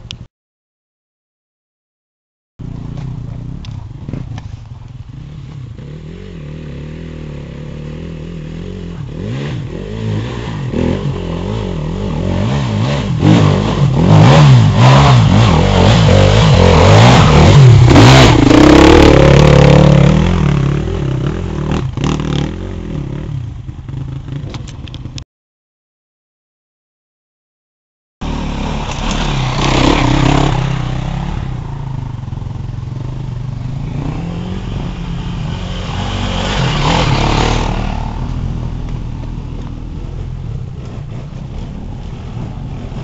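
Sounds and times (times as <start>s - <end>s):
dirt bike engines revving: 2.6s - 24.6s, 28.2s - 43.0s.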